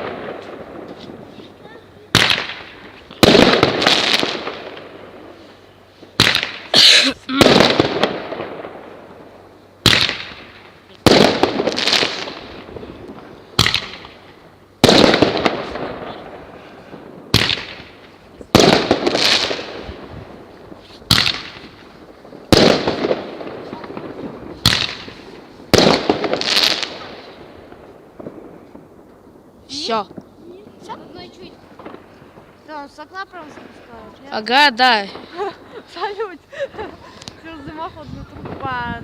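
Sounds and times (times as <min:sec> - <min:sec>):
fireworks bursting with bangs: 0:00.0 - 0:39.0.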